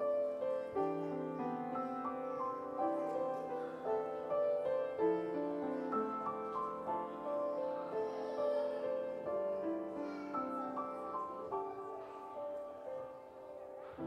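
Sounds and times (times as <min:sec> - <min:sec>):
slow keyboard music: 0:00.0 - 0:14.0.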